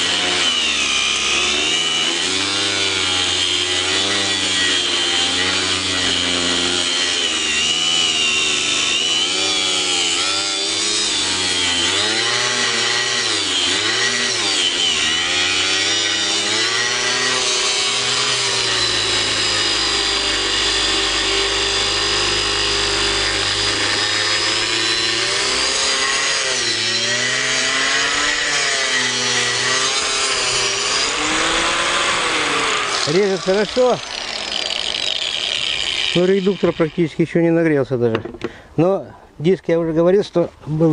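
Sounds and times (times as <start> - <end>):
angle grinder cutting metal: 0.0 - 38.5.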